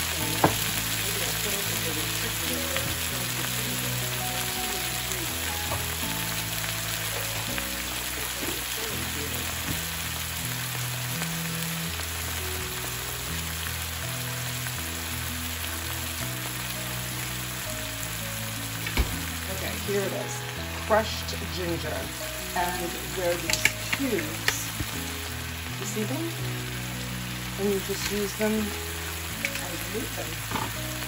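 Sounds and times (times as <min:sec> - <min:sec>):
food sizzling in a frying pan: 0:00.0 - 0:31.0
soft background music: 0:00.0 - 0:31.0.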